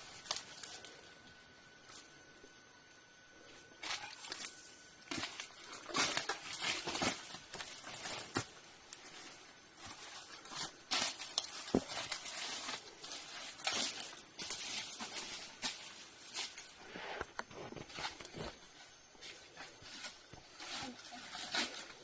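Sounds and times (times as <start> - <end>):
rustling and crackling: 3.7 - 22.0.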